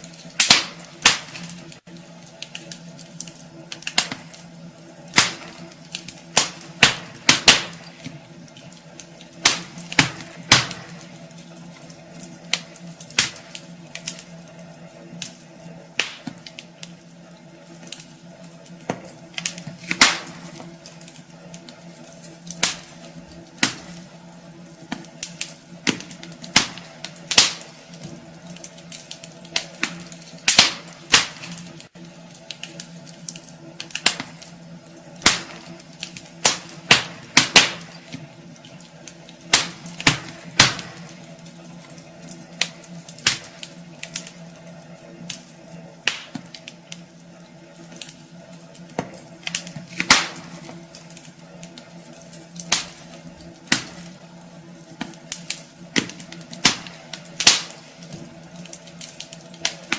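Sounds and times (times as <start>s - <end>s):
faint steady hum: 0.0s - 59.9s
wood fire crackling and popping: 0.0s - 59.9s.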